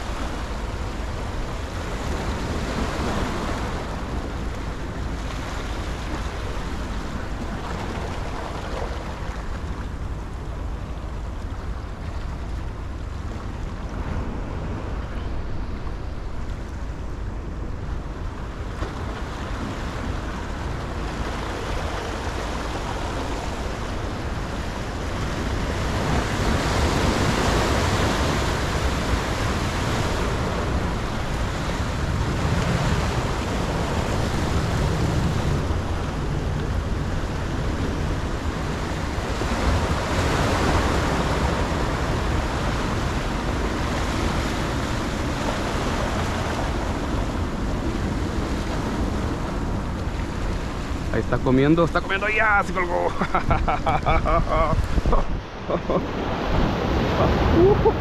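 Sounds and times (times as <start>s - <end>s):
ocean surf washing over rocks: 0.0s - 58.0s.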